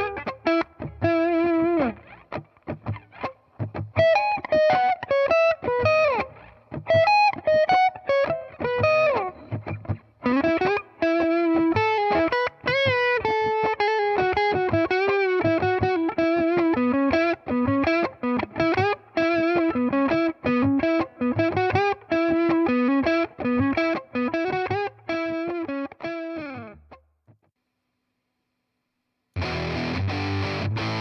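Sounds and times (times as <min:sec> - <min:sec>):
distorted electric guitar: 0:00.0 - 0:27.0, 0:29.4 - 0:31.0.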